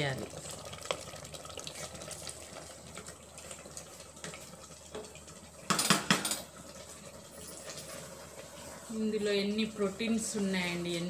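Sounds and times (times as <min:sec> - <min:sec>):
spatula stirring thick gravy: 0:00.3 - 0:05.7, 0:06.5 - 0:11.0.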